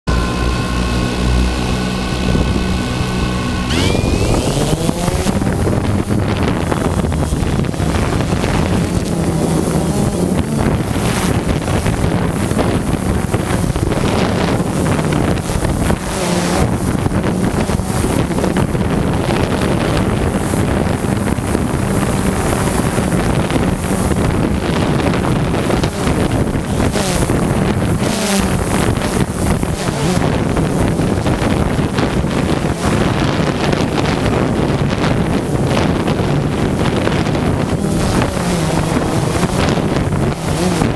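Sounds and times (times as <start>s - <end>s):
steady low hum: 0.1s - 40.9s
wind buffeting microphone: 0.1s - 40.9s.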